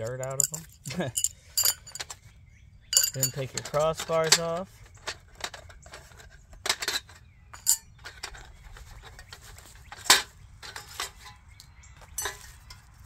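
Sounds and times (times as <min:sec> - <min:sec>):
metal crossbars clinking: 0:00.0 - 0:02.2, 0:02.9 - 0:13.0.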